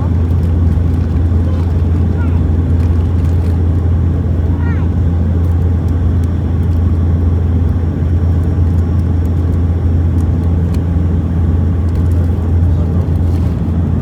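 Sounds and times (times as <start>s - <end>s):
airliner cabin rumble on runway: 0.0s - 14.0s.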